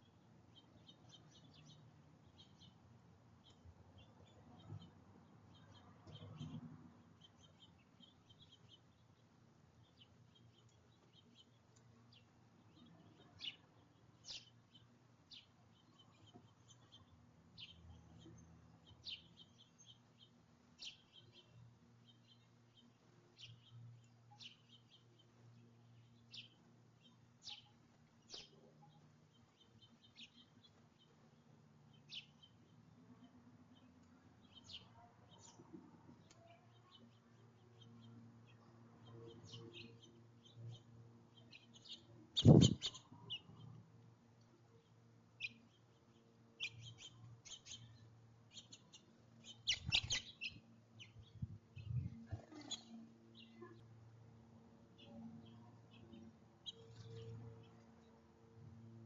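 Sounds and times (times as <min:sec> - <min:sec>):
small birds chirping: 0:00.0 - 0:58.3.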